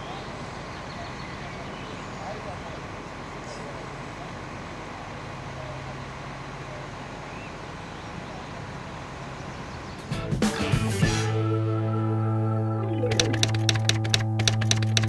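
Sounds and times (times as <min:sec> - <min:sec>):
outdoor noise: 0:00.0 - 0:15.0
vehicle engine humming: 0:00.0 - 0:15.0.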